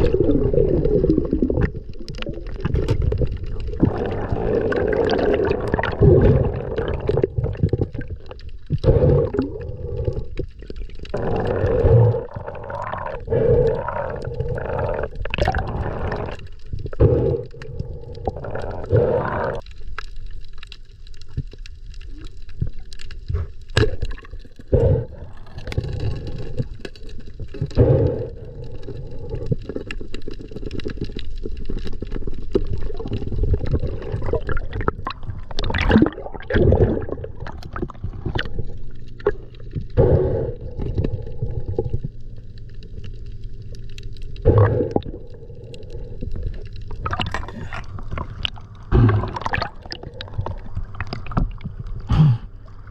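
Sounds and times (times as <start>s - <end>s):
underwater gurgling and swishing: 0.0s - 52.9s.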